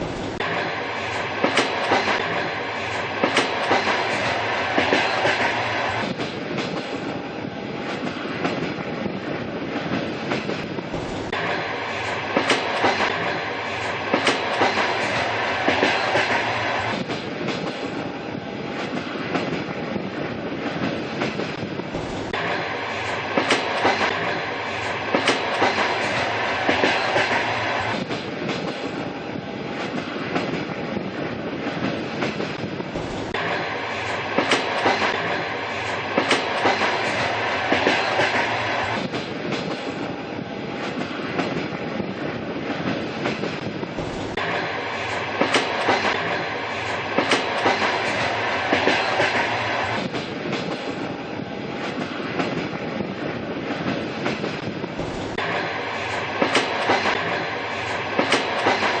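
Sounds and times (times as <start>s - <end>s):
train rumble: 0.0s - 59.0s
train wheels clickety-clack: 0.0s - 59.0s.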